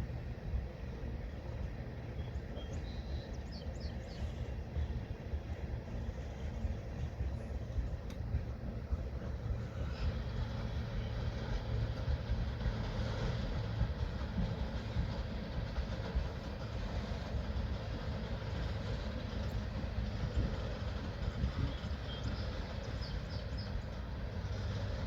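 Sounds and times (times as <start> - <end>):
freight train wheels rumbling on rails: 0.0 - 25.0.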